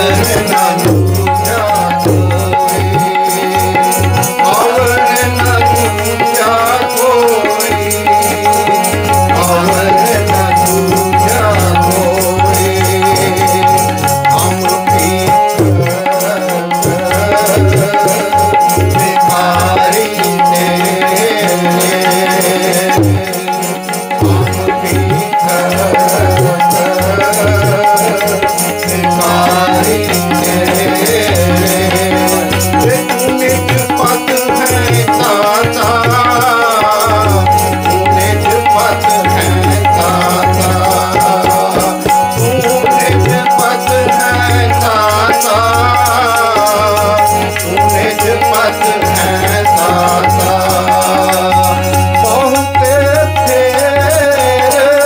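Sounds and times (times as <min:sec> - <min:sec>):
harmonium chords: 0:00.0 - 0:55.0
man singing: 0:00.0 - 0:55.0
tabla beat: 0:00.0 - 0:55.0.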